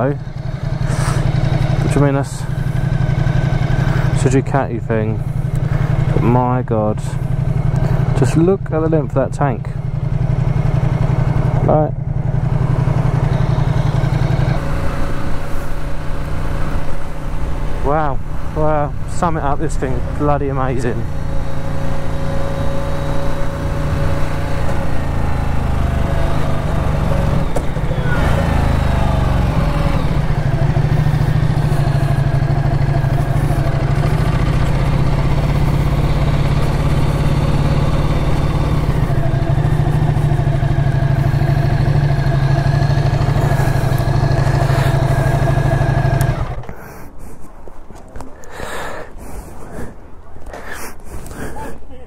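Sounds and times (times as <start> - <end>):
motorcycle engine: 0.0 - 47.1.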